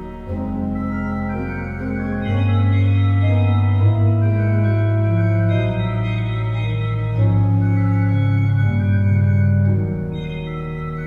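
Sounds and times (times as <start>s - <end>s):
pipe organ chords: 0.0s - 11.0s.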